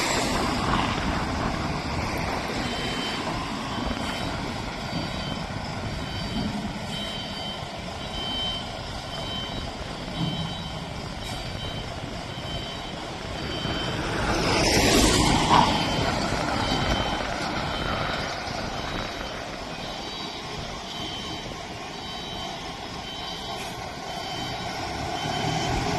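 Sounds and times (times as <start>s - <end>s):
truck engine running: 0.0s - 25.9s
reversing alarm beeping: 2.5s - 25.9s.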